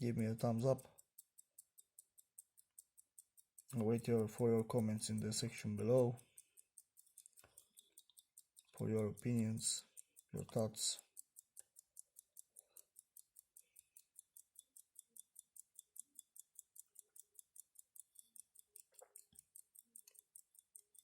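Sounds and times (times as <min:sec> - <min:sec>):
pocket watch ticking: 0:00.0 - 0:21.0.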